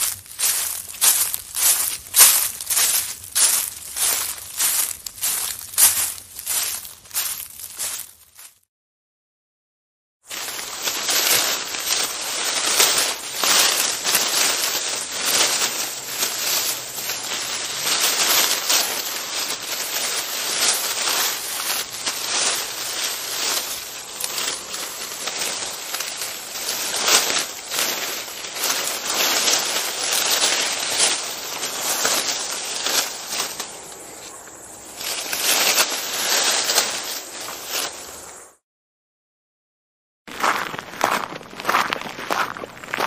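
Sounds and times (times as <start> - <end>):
rustling: 0.0 - 8.6, 10.3 - 38.5
footsteps on forest floor: 0.0 - 8.7, 10.3 - 38.5, 40.3 - 43.0.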